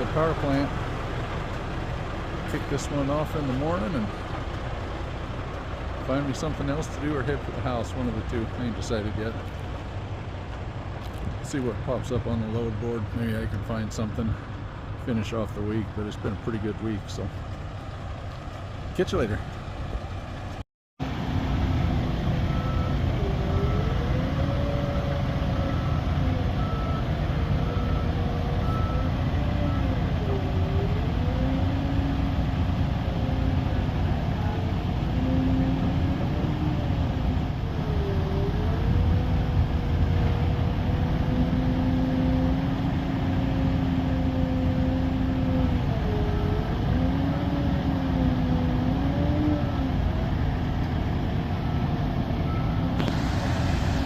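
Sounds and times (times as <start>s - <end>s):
truck engine rumble with whine: 0.0s - 54.0s.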